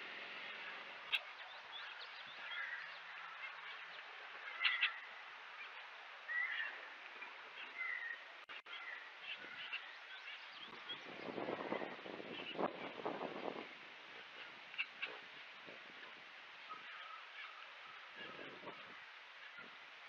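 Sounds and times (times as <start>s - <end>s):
birds chirping: 0.0s - 20.0s
outdoor background hiss: 0.0s - 20.0s.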